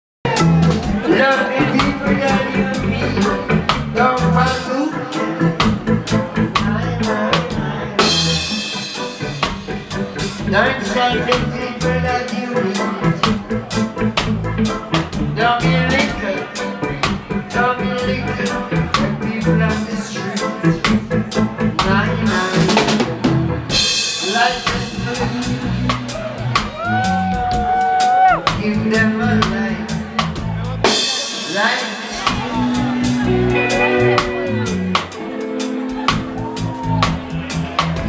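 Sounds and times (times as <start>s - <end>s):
person singing: 0.2s - 14.1s, 15.2s - 38.0s
drum kit beat: 0.2s - 38.0s
heavy bass line: 0.2s - 38.0s.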